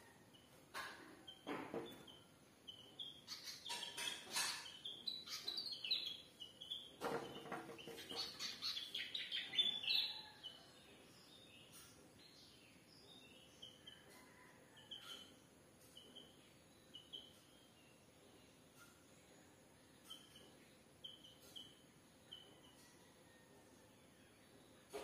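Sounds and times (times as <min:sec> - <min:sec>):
small birds chirping: 0:00.0 - 0:23.2.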